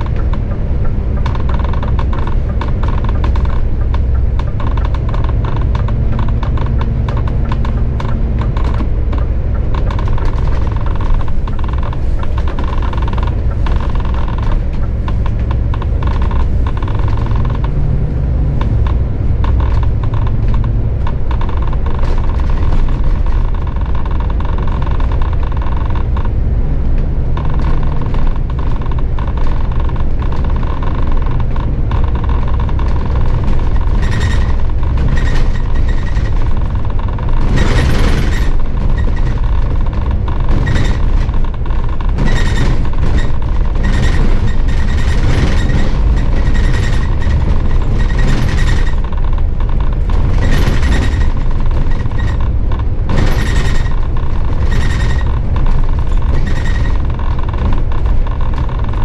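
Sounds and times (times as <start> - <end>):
bus engine rumble: 0.0 - 59.0
clicks and rattles: 0.0 - 59.0
road noise: 0.0 - 59.0.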